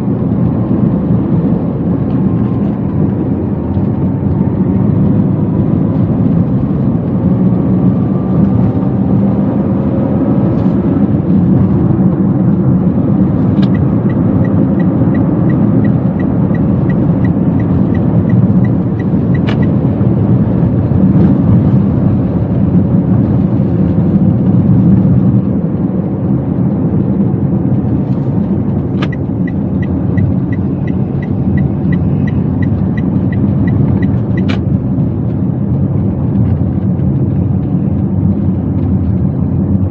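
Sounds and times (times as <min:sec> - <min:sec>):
car engine and road rumble: 0:00.0 - 0:39.9
turn signal ticking: 0:00.0 - 0:39.9.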